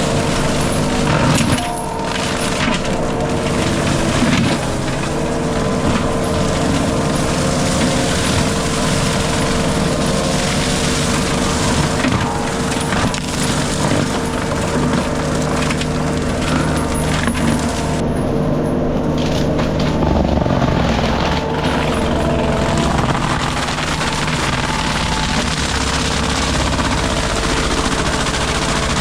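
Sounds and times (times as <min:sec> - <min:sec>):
brush and trees cracking: 0:00.0 - 0:18.0, 0:19.0 - 0:29.0
diesel engine drone: 0:00.0 - 0:29.0
mulcher drum whine: 0:00.0 - 0:29.0.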